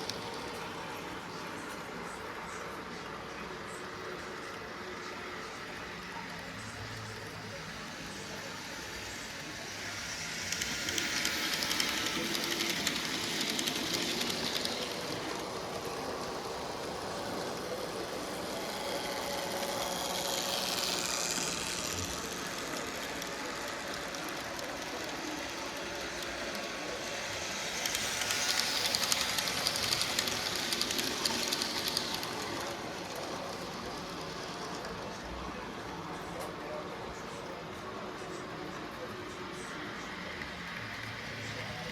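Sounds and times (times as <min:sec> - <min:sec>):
model train motor whirring: 0:00.0 - 0:41.9
train wheels clicking on track: 0:00.0 - 0:41.9.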